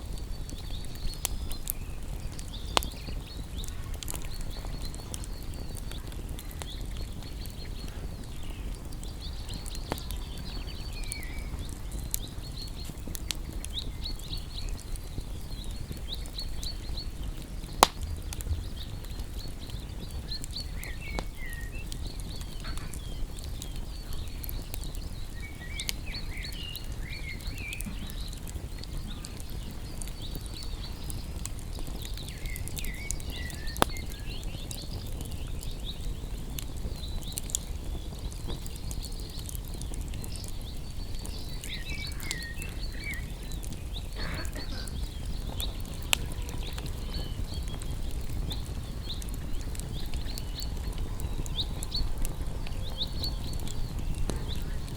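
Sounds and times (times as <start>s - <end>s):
birds chirping: 0.0s - 54.9s
campfire crackling: 0.0s - 54.9s.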